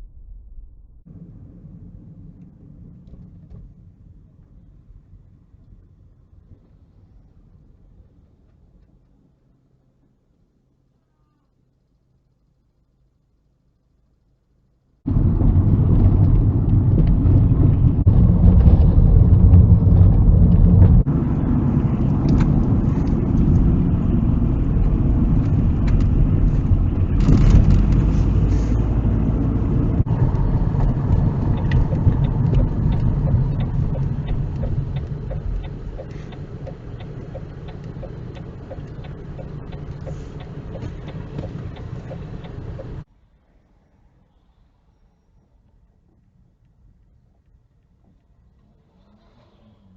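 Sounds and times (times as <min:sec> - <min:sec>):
car engine and tyre rumble: 0:00.0 - 0:10.9, 0:14.5 - 0:49.9.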